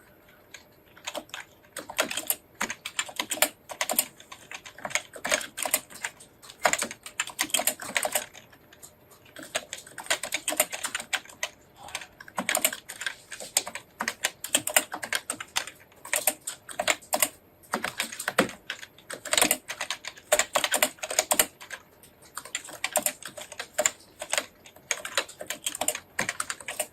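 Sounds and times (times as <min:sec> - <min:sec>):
fast typing on keyboard: 0:00.5 - 0:26.9.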